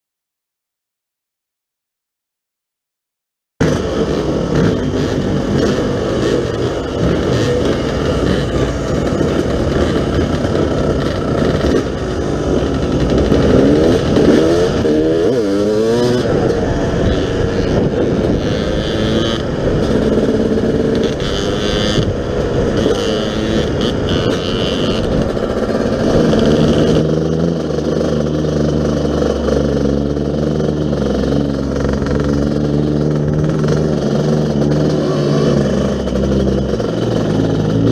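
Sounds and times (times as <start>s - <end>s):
dirt bike engine revving: 3.6s - 37.9s.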